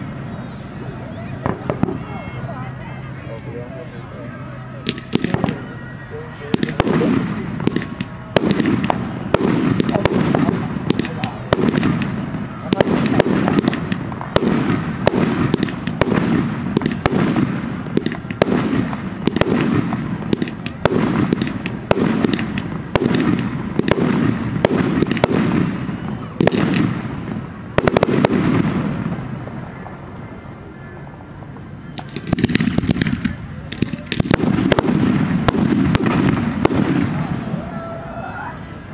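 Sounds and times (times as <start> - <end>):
fireworks crackling: 0.0 - 38.9
firework bangs and booms: 1.3 - 2.5, 4.8 - 30.4, 31.4 - 37.8.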